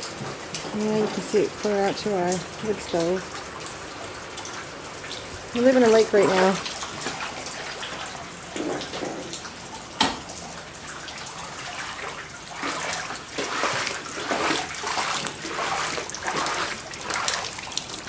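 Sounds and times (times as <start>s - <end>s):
footsteps sloshing through water: 2.6s - 9.8s, 10.8s - 18.0s.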